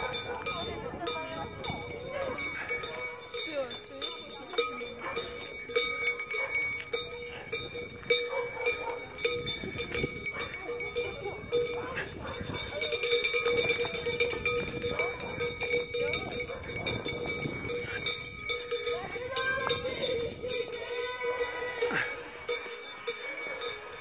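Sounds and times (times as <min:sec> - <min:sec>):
metal bells jangling: 0:00.0 - 0:24.0
voices in background: 0:00.0 - 0:24.0.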